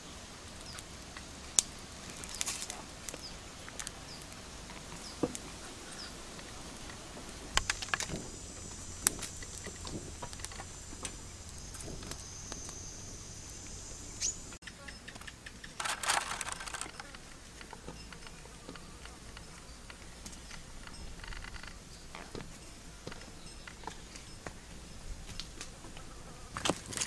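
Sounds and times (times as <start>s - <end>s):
insects buzzing: 0.0s - 27.0s
rustling: 0.0s - 27.0s.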